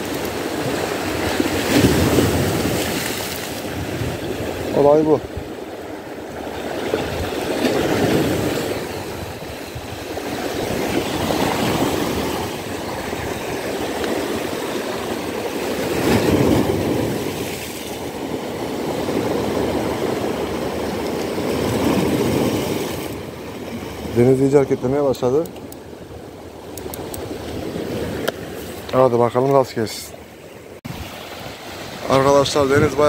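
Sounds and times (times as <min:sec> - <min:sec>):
waves breaking on shore: 0:00.0 - 0:33.0.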